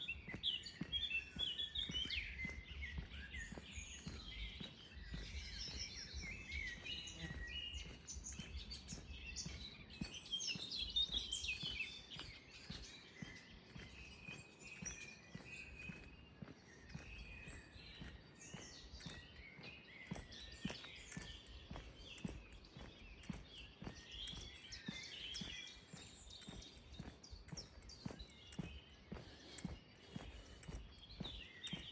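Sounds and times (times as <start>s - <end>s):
birds singing and chirping: 0.0s - 31.9s.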